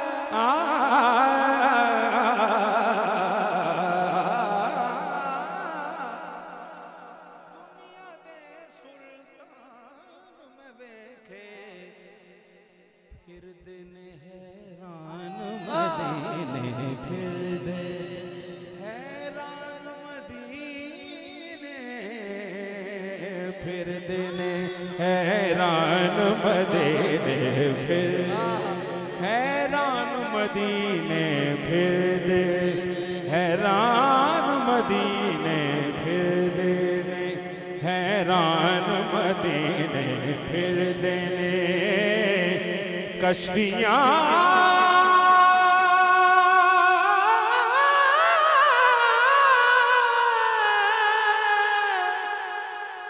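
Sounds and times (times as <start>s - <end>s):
man singing wordless melismas: 0.0s - 6.5s, 13.2s - 53.0s.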